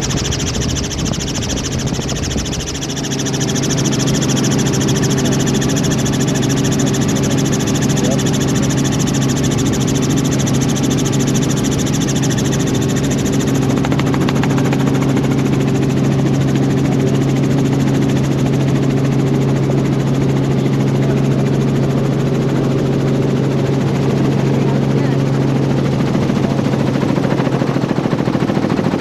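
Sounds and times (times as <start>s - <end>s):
helicopter engine and rotors: 0.0s - 29.0s.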